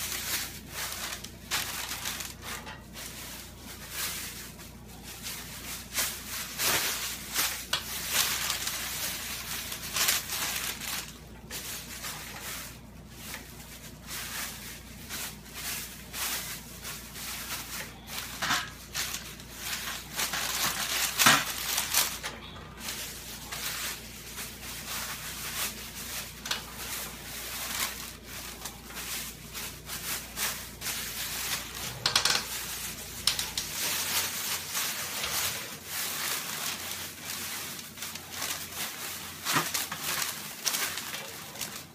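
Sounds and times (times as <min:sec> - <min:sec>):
plastic bags crinkling: 0:00.0 - 0:41.9.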